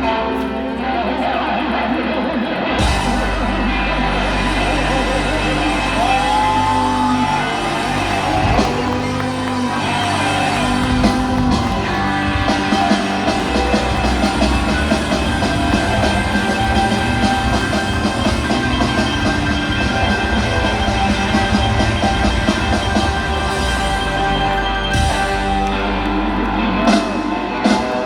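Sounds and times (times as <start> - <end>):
bass guitar: 0.0 - 28.0
drums: 0.0 - 28.0
electric guitar lead lines: 0.0 - 28.0.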